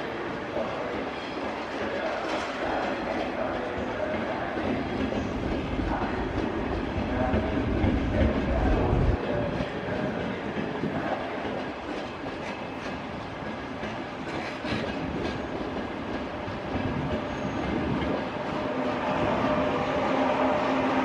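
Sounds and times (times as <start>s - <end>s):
train running rumble: 0.0s - 21.0s
train wheels clacking: 0.0s - 21.0s.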